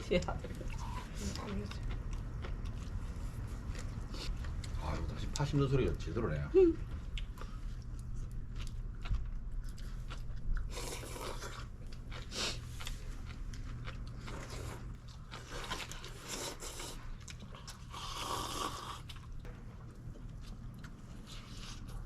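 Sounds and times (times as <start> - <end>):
crunching and chewing: 0.7 - 5.5, 7.1 - 22.0.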